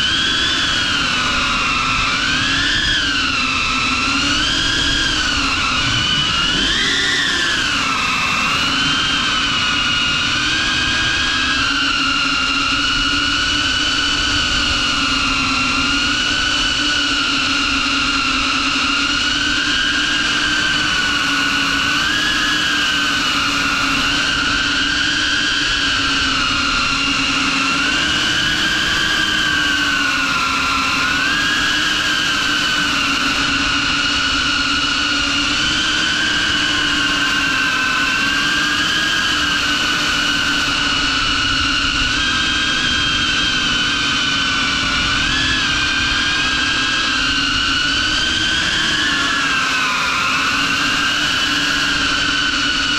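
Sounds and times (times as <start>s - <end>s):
drone motors whining: 0.0s - 52.9s.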